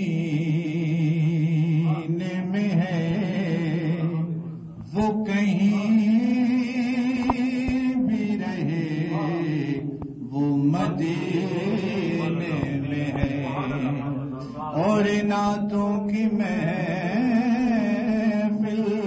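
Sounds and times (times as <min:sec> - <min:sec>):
man chanting devotional poem: 0:00.0 - 0:19.0.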